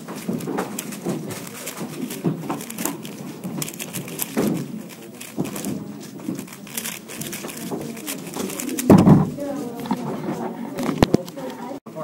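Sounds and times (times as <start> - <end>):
speed cube clattering: 0.0 - 11.0.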